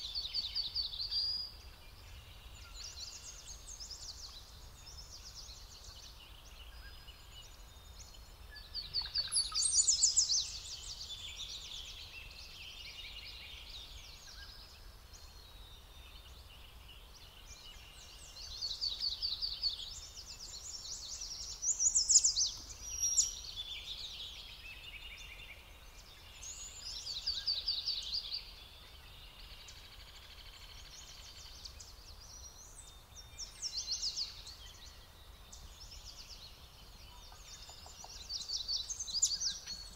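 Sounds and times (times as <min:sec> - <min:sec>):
bird chirping: 0:00.0 - 0:39.9
songbirds trilling: 0:00.0 - 0:39.9.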